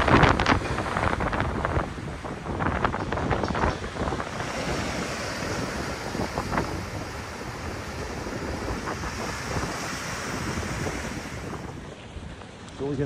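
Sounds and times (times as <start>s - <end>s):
waves breaking on shingle beach: 0.0s - 12.6s
wind noise on microphone: 0.0s - 13.0s.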